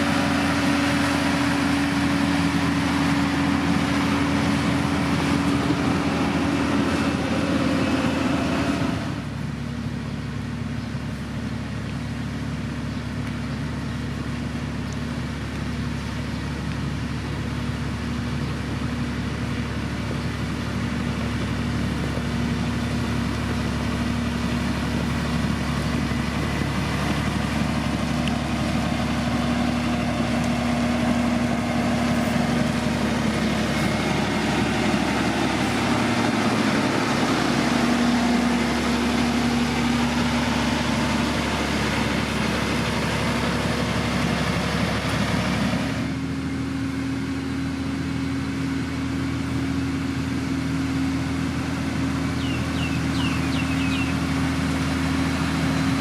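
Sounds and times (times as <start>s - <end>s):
heavy machine diesel engine: 0.0s - 56.0s.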